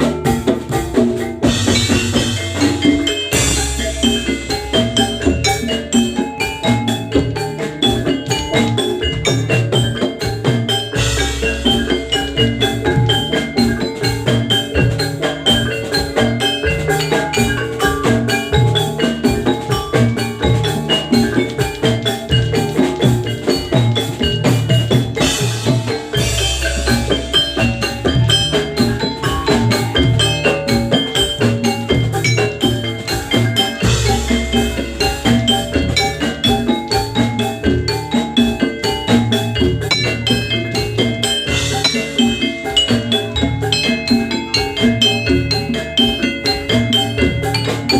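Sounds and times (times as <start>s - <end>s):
drumming: 0.0s - 47.9s
metallophones playing struck notes: 0.0s - 47.9s.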